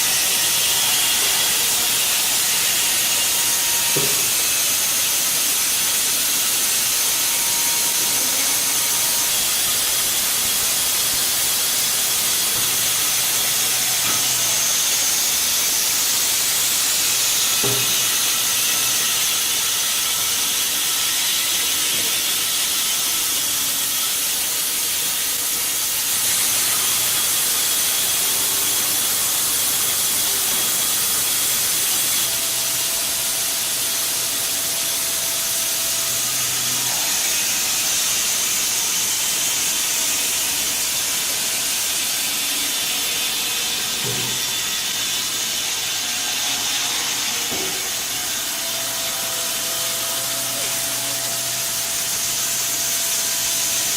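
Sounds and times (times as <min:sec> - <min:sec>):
hissing machine noise: 0:00.0 - 0:53.9.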